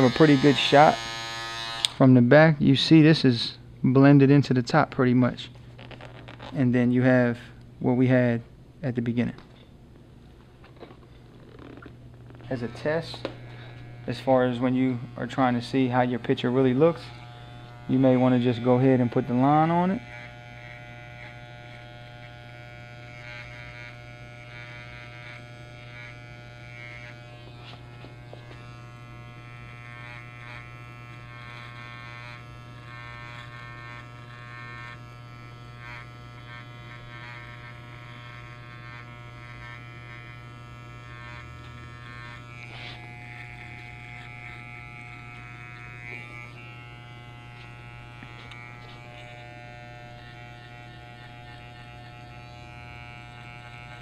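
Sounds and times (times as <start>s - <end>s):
electric hair trimmer buzzing: 0.0s - 2.0s, 11.4s - 54.0s.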